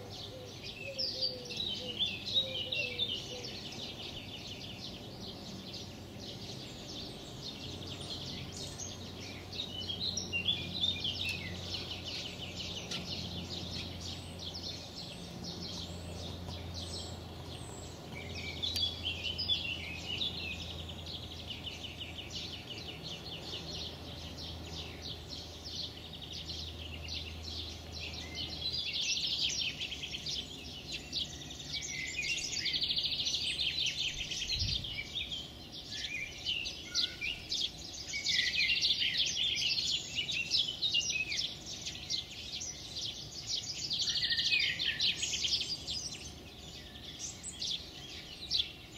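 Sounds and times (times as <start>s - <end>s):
songbirds chattering trills: 0.0s - 48.9s.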